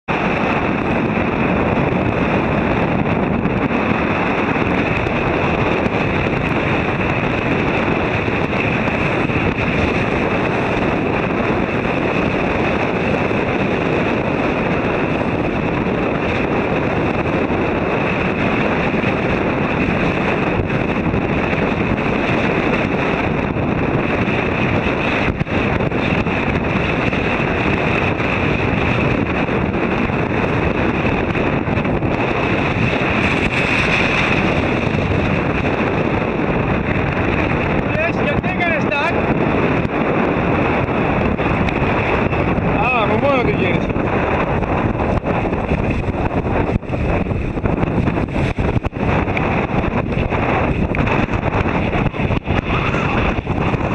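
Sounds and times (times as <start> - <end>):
choppy water and spray: 0.0 - 53.9
wind buffeting microphone: 0.0 - 53.9.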